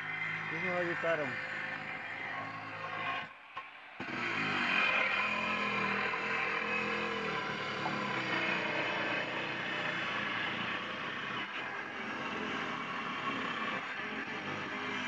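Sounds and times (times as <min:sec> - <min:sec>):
power saw cutting roof tile: 0:00.0 - 0:15.0.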